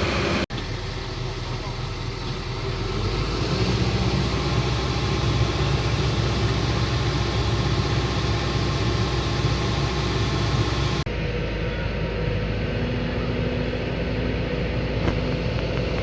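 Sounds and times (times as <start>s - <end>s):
excavator engine droning: 0.0s - 16.0s.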